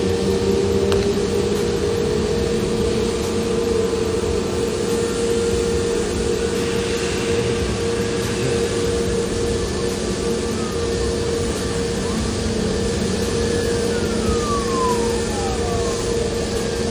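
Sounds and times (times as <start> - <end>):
low hum: 0.0 - 16.9
mid-pitched machinery hum: 0.0 - 16.9.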